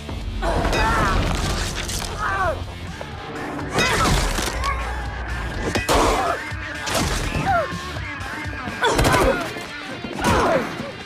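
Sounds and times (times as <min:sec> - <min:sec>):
action film music score: 0:00.0 - 0:11.0.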